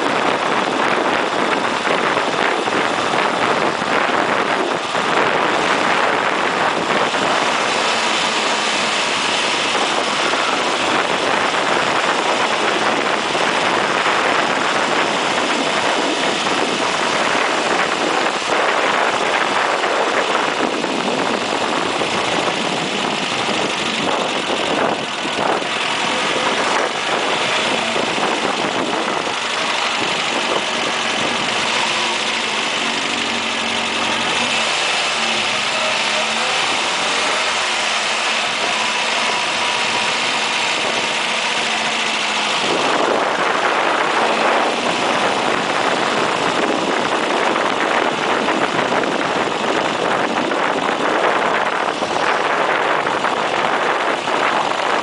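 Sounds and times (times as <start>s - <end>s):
car engine running: 0.0s - 55.0s
wind and road rush: 0.0s - 55.0s.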